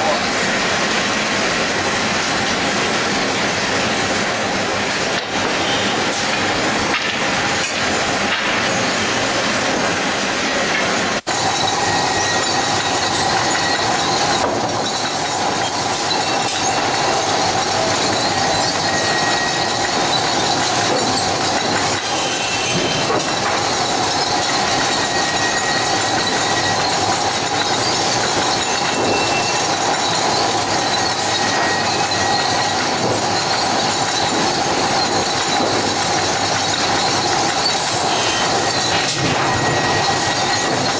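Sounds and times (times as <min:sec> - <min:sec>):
conveyor metallic clatter: 0:00.0 - 0:40.9
steady machine whine: 0:00.0 - 0:40.9.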